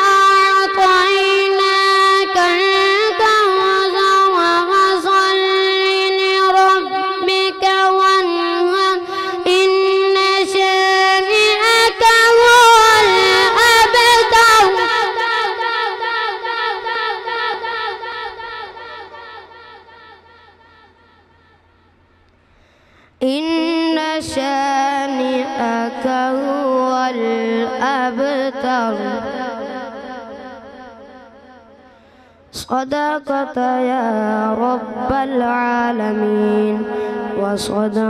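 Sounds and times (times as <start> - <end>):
boy reciting melodically: 0.0 - 20.4, 23.2 - 31.6, 32.5 - 38.0.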